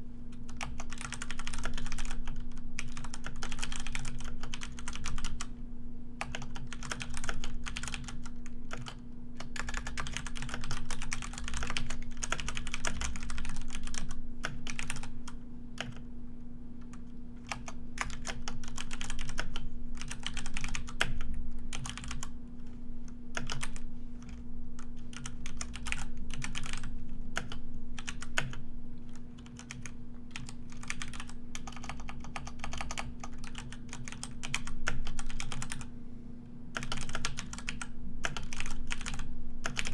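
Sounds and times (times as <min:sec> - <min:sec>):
steady low hum: 0:00.0 - 0:39.9
typing on computer keyboard: 0:00.4 - 0:05.5, 0:06.2 - 0:15.1, 0:17.5 - 0:22.3, 0:23.4 - 0:24.4, 0:25.0 - 0:28.6, 0:29.4 - 0:35.9, 0:36.8 - 0:39.9.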